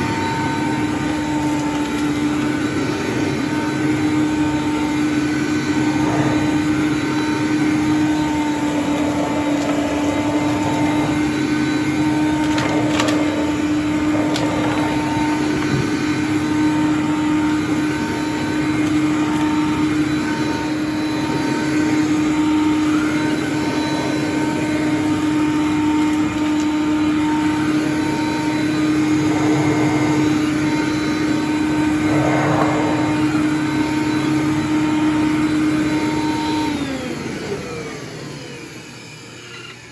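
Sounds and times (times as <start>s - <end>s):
vacuum cleaner motor humming: 0.0s - 39.9s.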